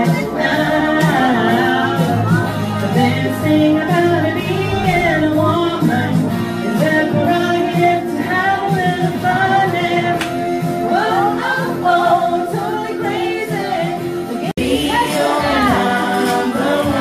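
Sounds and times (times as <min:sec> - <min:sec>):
upbeat pop music with singing: 0:00.0 - 0:17.0.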